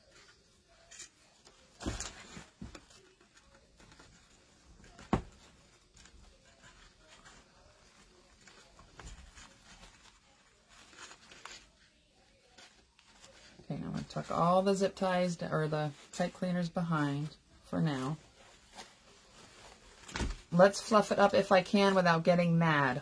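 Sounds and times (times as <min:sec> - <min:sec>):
ribbon and fabric rustling: 0:00.0 - 0:23.0.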